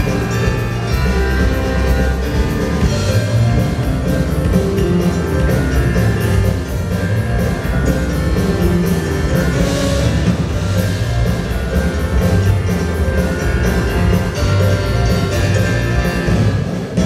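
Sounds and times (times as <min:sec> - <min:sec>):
band playing instrumental rock: 0:00.0 - 0:17.0
drum kit beat: 0:00.0 - 0:17.0.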